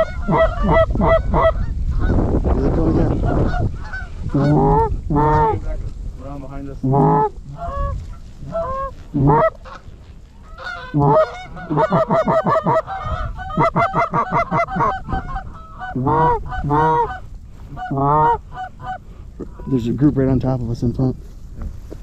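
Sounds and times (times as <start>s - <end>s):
geese honking: 0.0s - 5.6s, 6.8s - 20.1s
rapid clucking calls: 0.0s - 5.6s, 6.8s - 20.1s.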